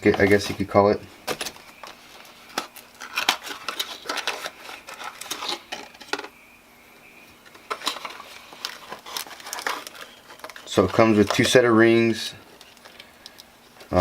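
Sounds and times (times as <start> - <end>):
packaging crinkling: 0.0 - 6.3, 7.4 - 14.0.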